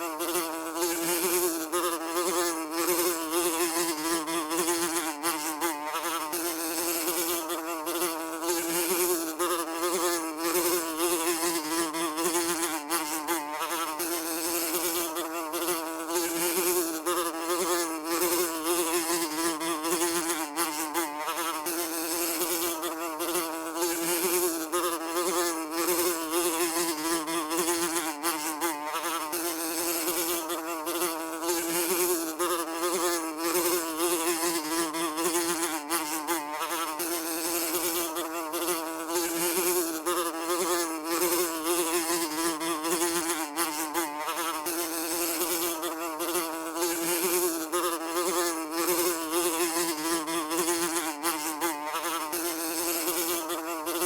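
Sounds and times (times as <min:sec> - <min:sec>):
housefly buzzing: 0:00.0 - 0:54.0.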